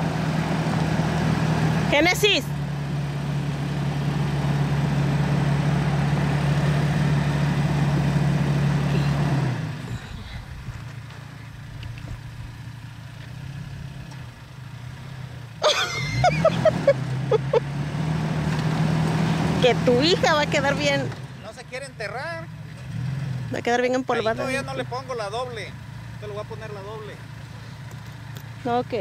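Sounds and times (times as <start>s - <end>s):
pickup truck engine running: 0.0s - 29.0s.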